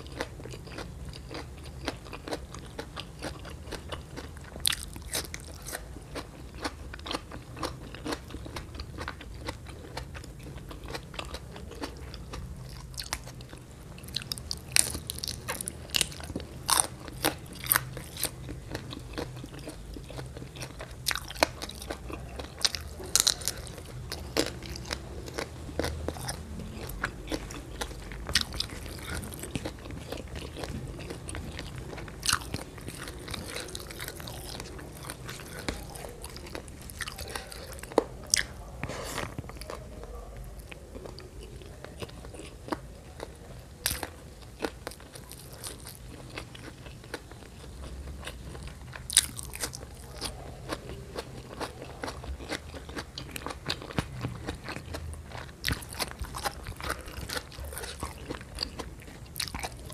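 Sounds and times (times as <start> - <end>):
person chewing food: 0.0 - 59.9
steady low hum: 0.0 - 59.9.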